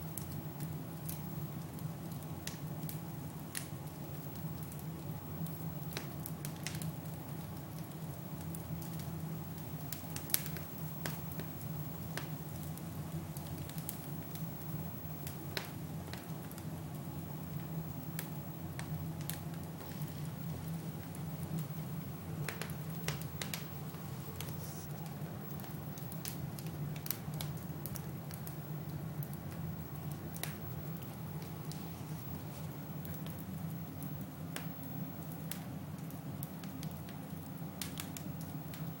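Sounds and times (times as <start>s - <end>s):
fire crackling and popping: 0.0s - 39.0s
fire low rumble: 0.1s - 39.0s.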